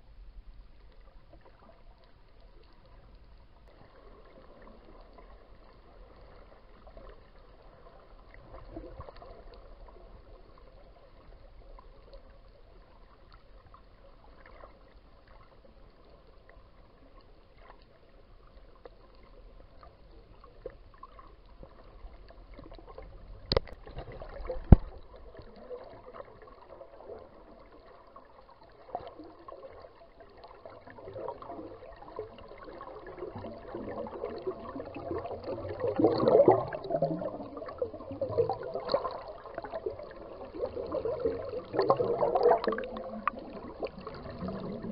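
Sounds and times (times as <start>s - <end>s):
underwater water gurgling: 0.0s - 44.9s.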